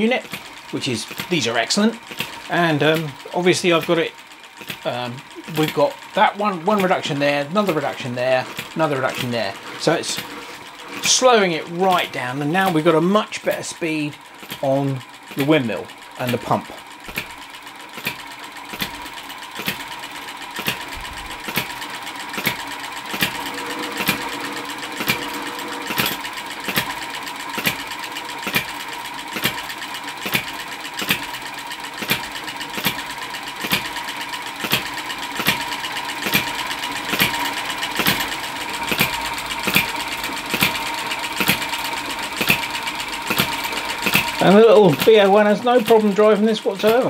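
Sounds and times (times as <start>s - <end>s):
model engine clicking: 0.0s - 47.0s
windmill grinding: 0.0s - 47.0s.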